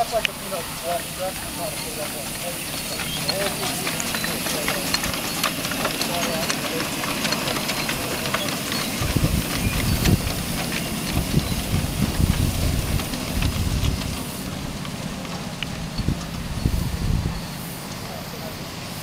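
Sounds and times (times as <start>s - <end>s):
low uneven rumble: 0.0s - 19.0s
steam hiss: 0.0s - 19.0s.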